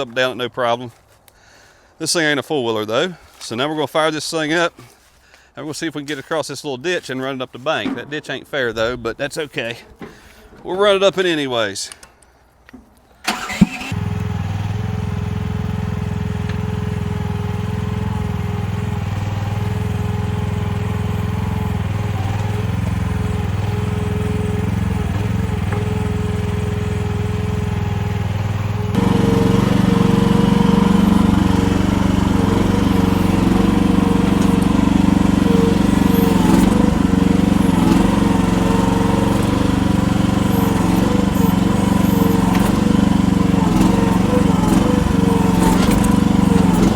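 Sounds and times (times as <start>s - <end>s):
excavator engine starting and idling: 7.6s - 46.9s.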